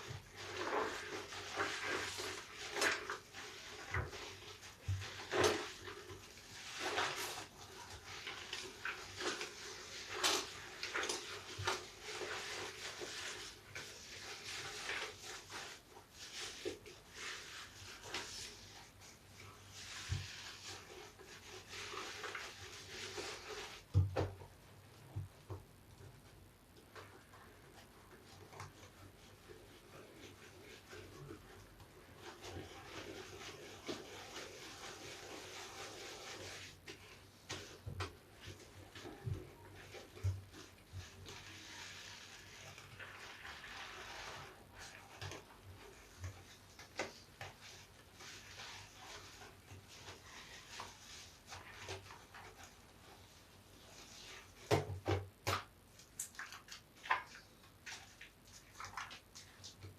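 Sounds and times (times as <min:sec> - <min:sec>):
sponge squelching: 0:00.0 - 0:59.9.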